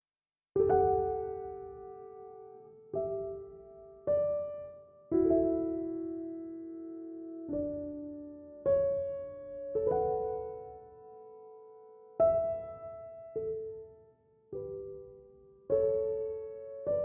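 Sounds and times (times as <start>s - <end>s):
slow piano chords: 0.6s - 17.0s.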